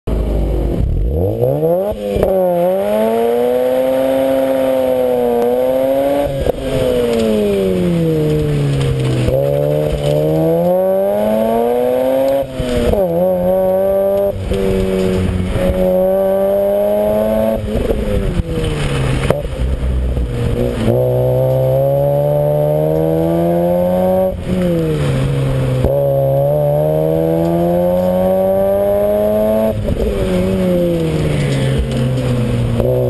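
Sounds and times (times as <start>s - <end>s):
rotary engine revving: 0.1s - 33.0s.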